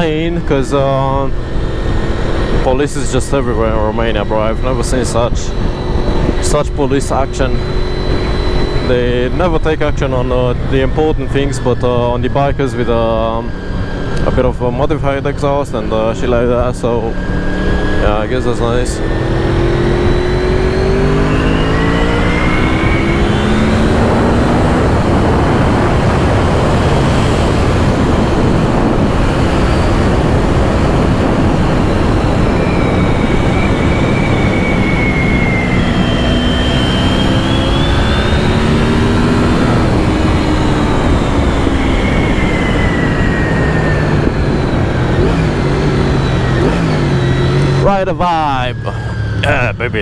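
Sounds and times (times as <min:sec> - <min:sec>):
wind rush on microphone: 0:00.0 - 0:47.8
motorcycle engine revving: 0:00.0 - 0:50.0.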